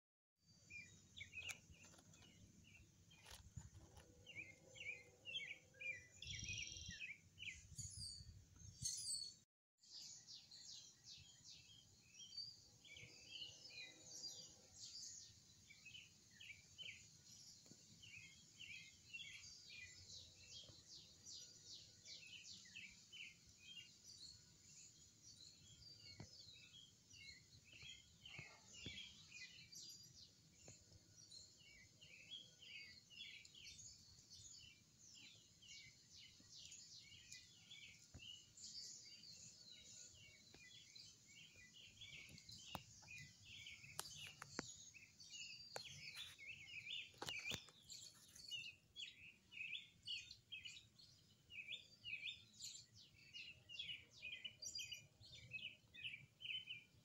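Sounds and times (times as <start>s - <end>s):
wild birds chirping: 0.5s - 57.0s.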